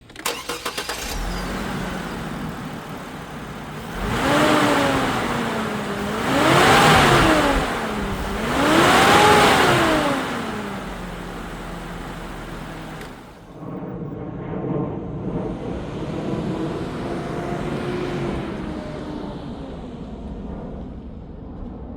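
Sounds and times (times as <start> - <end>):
car engine idling and revving: 0.0 - 13.6, 15.2 - 21.7
car engine starting: 0.0 - 13.7, 15.3 - 21.2.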